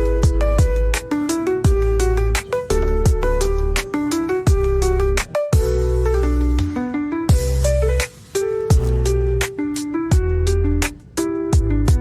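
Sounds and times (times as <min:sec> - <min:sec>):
lo-fi background music: 0:00.0 - 0:12.0.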